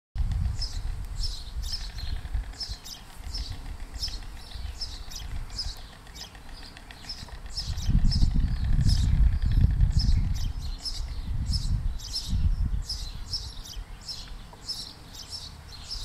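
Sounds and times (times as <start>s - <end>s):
wind rumbling on microphone: 0.2s - 14.8s
high bird chirps: 0.6s - 16.0s.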